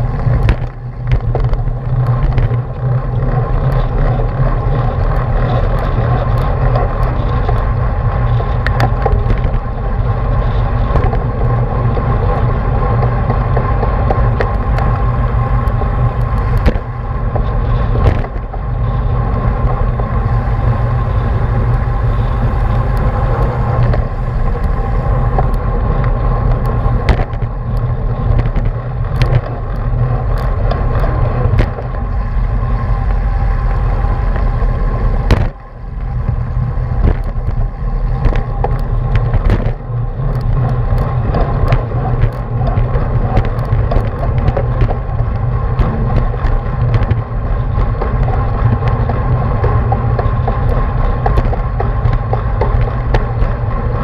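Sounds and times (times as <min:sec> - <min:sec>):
road rumble: 0:00.0 - 0:54.0
wind rush: 0:00.0 - 0:54.0.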